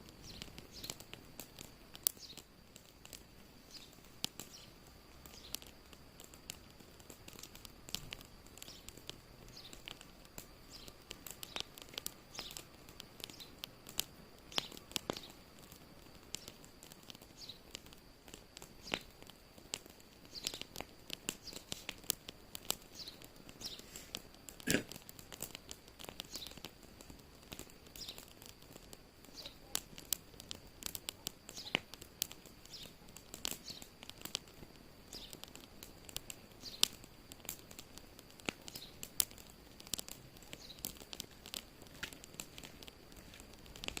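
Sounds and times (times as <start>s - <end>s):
faint steady hiss: 0.0s - 44.0s
wood fire crackling and popping: 0.0s - 44.0s.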